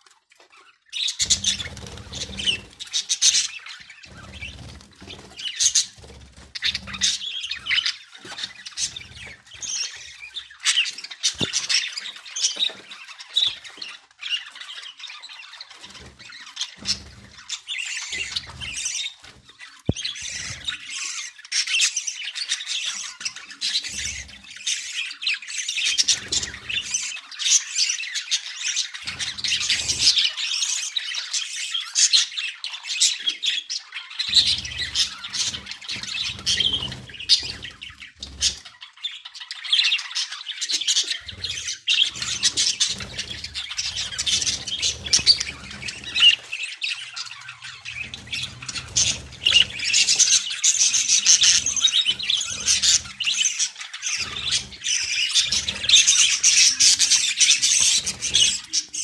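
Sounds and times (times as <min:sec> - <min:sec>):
budgerigars chattering and squawking: 0:00.5 - 0:59.0.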